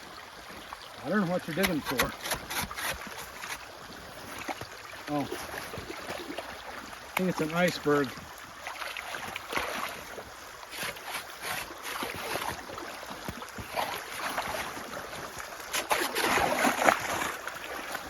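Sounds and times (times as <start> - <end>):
slushy water splashing: 0.0 - 18.0.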